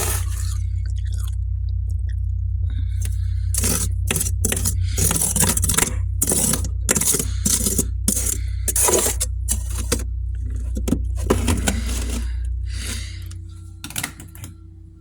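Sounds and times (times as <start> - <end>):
frost being scraped and crunched: 0.0 - 0.6, 3.0 - 14.5
steady low hum: 0.0 - 15.0.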